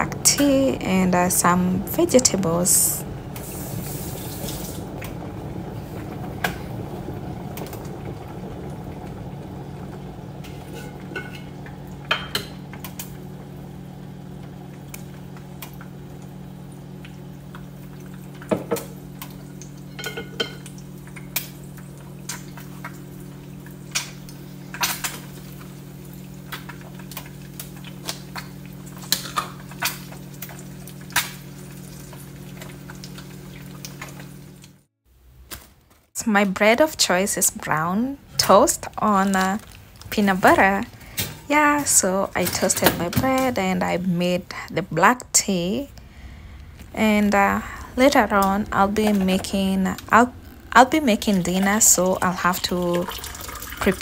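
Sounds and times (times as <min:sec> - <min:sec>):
egg frying: 0:00.0 - 0:54.0
steady low hum: 0:00.0 - 0:54.0.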